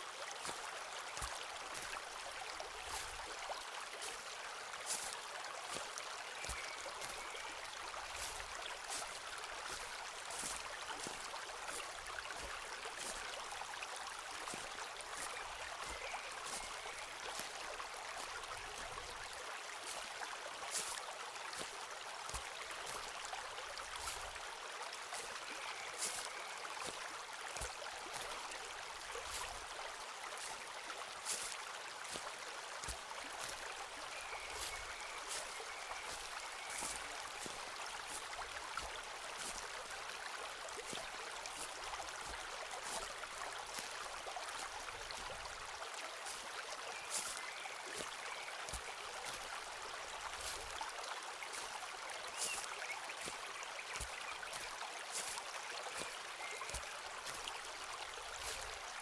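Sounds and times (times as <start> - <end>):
stream rushing: 0.0 - 59.0
footsteps crunching on path: 2.8 - 3.3, 4.8 - 13.4, 14.4 - 19.3, 19.9 - 24.4, 25.1 - 28.5, 29.2 - 29.7, 30.3 - 45.7, 47.0 - 50.9, 51.5 - 59.0.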